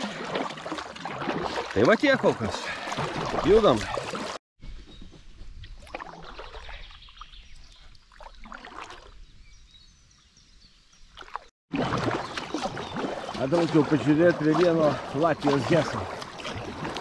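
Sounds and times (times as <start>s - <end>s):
kayak paddle splashing in water: 0.0s - 4.4s, 5.8s - 9.2s, 11.1s - 17.0s.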